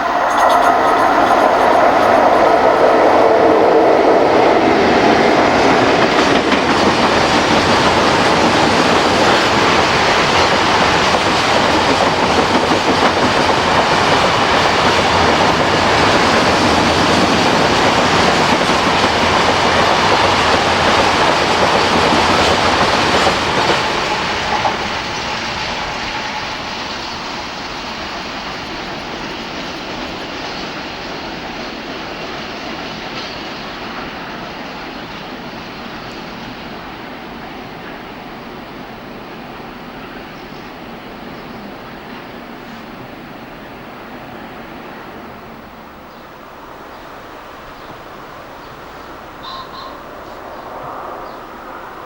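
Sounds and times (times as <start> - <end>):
freight train wheels on rails: 0.0 - 52.0.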